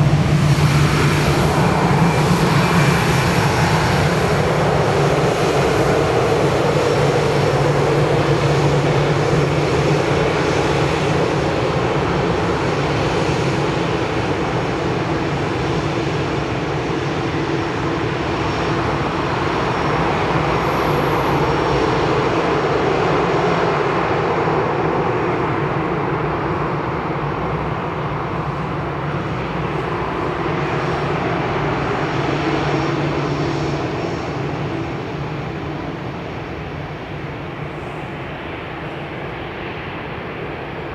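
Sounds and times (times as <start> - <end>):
jet engines at takeoff power: 0.0 - 40.9.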